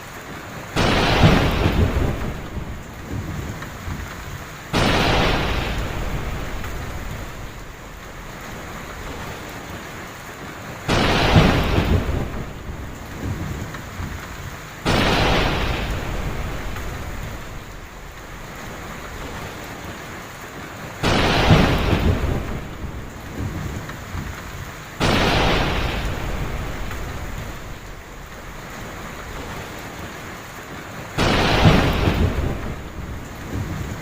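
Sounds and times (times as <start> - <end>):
heavy rain falling: 0.0 - 34.0
thunder cracking and rumbling: 0.8 - 34.0.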